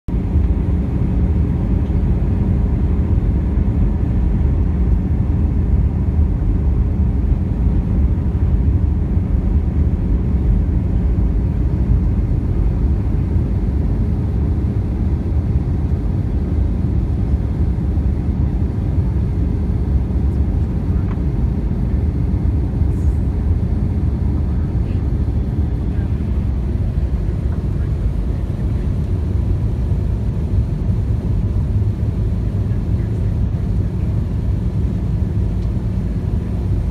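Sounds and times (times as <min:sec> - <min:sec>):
jet engine and airflow rumble: 0:00.1 - 0:36.9.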